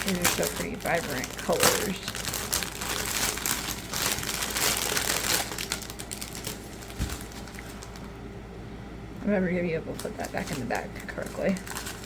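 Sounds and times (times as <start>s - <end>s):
plastic bags crinkling: 0.0s - 8.2s, 9.6s - 12.0s.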